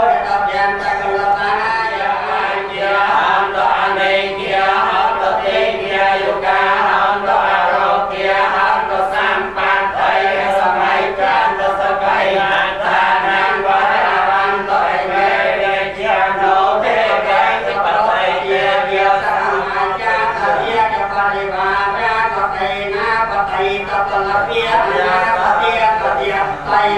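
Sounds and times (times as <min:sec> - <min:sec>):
group of voices chanting: 0:00.0 - 0:23.0.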